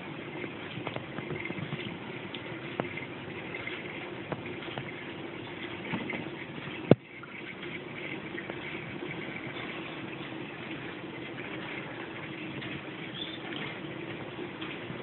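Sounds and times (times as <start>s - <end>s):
aquarium filter bubbling water: 0.0s - 15.0s.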